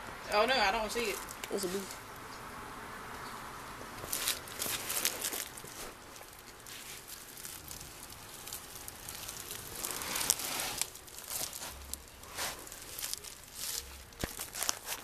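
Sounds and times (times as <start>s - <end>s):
plastic glove and blankets rustling: 0.3s - 2.0s, 4.0s - 15.0s.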